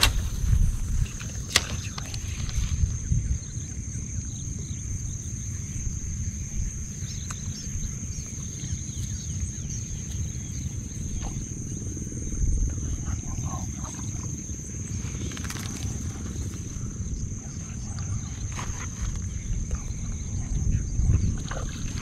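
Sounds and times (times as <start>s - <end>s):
high-pitched insect drone: 0.0s - 22.0s
low rumble: 0.0s - 22.0s.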